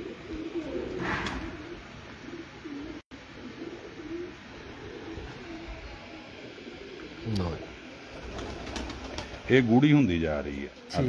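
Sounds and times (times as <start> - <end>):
pigeons cooing: 0.0 - 9.5.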